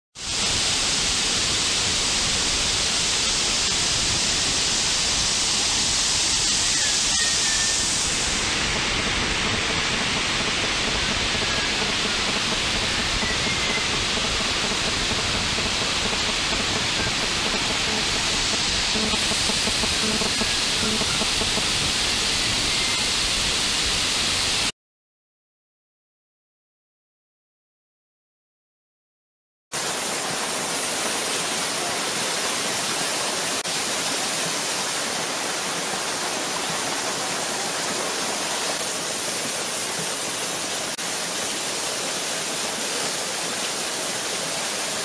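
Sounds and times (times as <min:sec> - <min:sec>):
waterfall crashing onto rocks: 0:00.2 - 0:24.7, 0:29.8 - 0:45.0.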